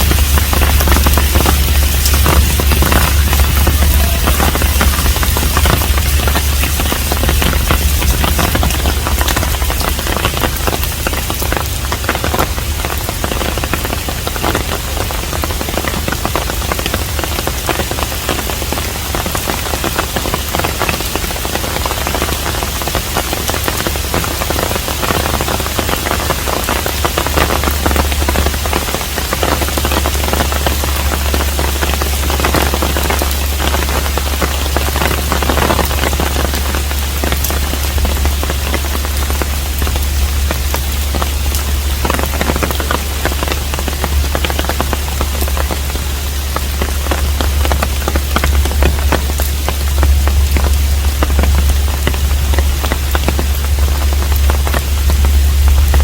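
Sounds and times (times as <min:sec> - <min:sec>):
steady low hum: 0:00.0 - 0:18.2, 0:27.4 - 0:56.0
rain pattering: 0:00.0 - 0:56.0.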